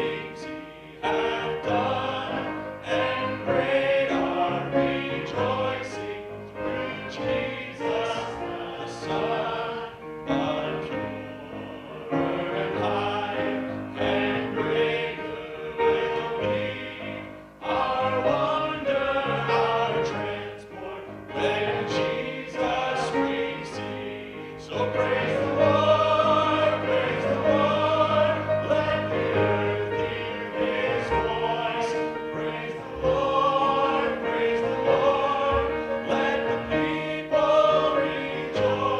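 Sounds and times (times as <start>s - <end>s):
vocal group singing gospel: 0.0s - 38.9s.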